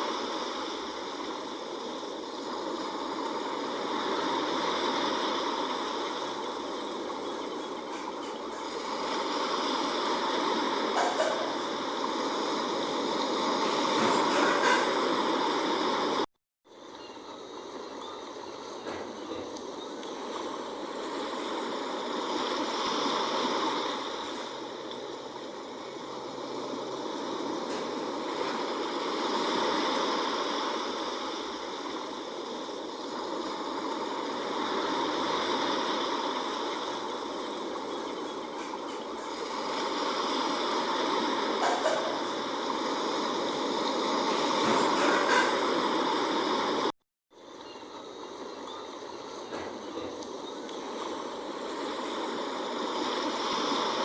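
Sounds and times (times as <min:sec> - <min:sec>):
sea waves washing in: 0:00.0 - 0:54.0.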